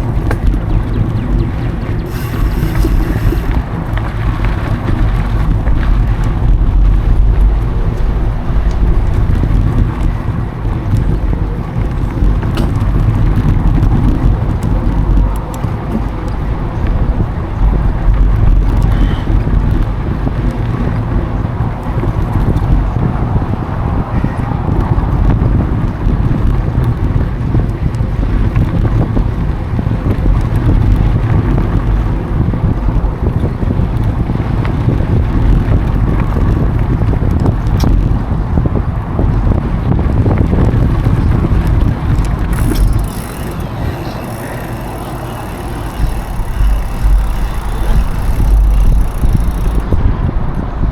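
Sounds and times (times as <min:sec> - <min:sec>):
bike ticks and clicks: 0:00.0 - 0:39.4, 0:40.1 - 0:50.2
wind buffeting microphone: 0:00.0 - 0:50.9.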